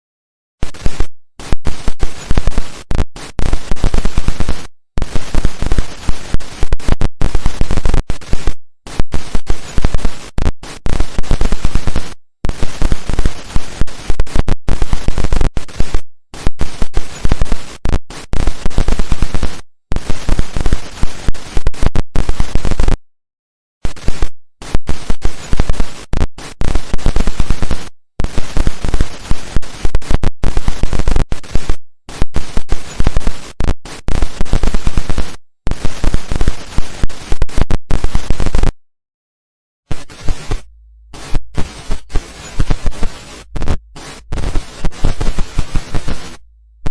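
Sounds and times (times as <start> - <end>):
harsh digital glitch stuttering: 0.6 - 23.0, 23.9 - 38.7, 39.9 - 46.9.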